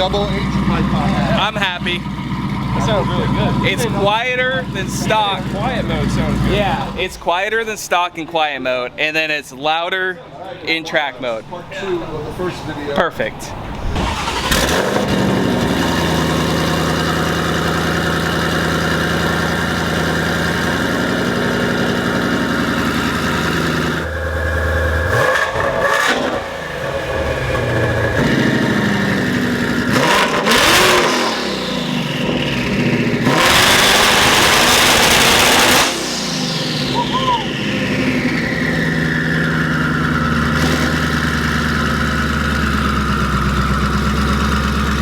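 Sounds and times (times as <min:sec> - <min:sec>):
car engine revving: 0:00.0 - 0:07.3, 0:12.2 - 0:45.0.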